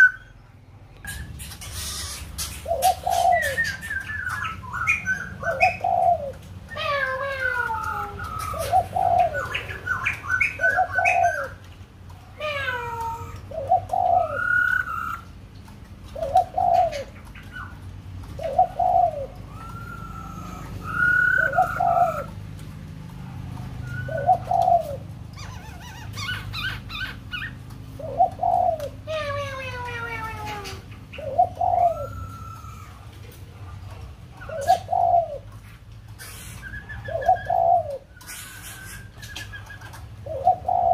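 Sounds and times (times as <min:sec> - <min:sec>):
dove cooing: 0:00.0 - 0:00.4, 0:01.0 - 0:40.9.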